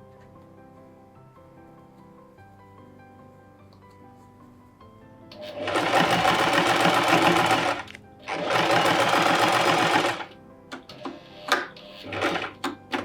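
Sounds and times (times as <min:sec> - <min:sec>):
soft music: 0:00.0 - 0:13.0.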